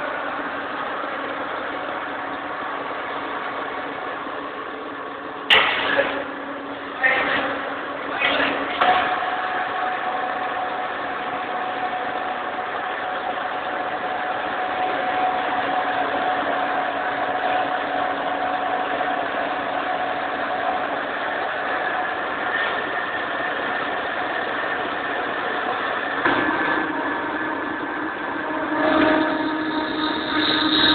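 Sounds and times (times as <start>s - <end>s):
machine tool humming: 0.0s - 30.9s.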